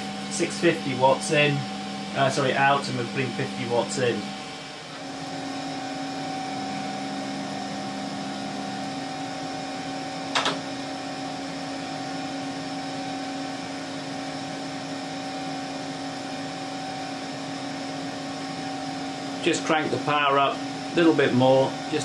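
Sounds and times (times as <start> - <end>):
amplifier whir and hum: 0.0 - 22.0.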